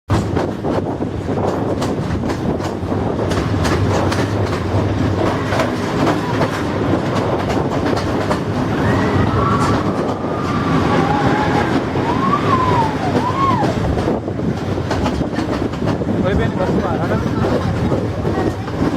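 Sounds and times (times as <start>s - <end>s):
train rumbling on rails: 0.1s - 18.9s
wheels clicking over rail joints: 0.1s - 18.9s.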